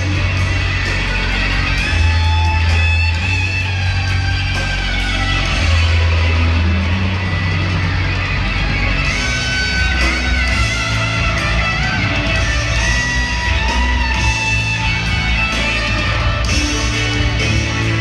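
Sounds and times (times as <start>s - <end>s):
electric guitar lines: 0.0s - 18.0s
live rock band playing: 0.0s - 18.0s.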